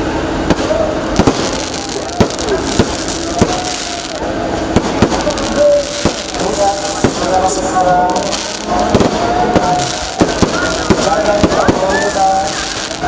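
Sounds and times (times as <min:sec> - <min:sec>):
fireworks sparks hissing and crackling: 0:00.0 - 0:13.0
firework shells bursting: 0:00.4 - 0:13.0.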